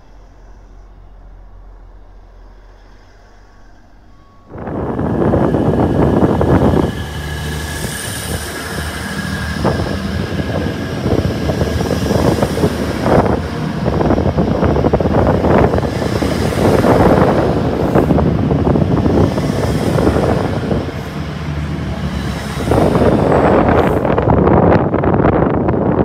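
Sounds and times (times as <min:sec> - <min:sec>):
diesel engines humming: 0:00.0 - 0:26.0
train wheels clattering over track: 0:04.4 - 0:26.0.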